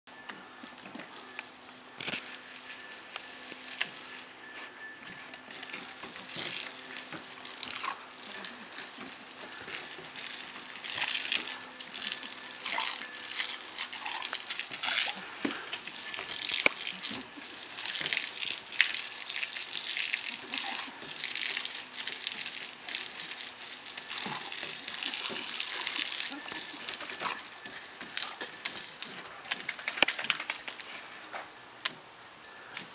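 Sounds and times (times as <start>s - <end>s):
hose water spraying on wooden deck: 1.1s - 4.3s, 5.4s - 30.9s.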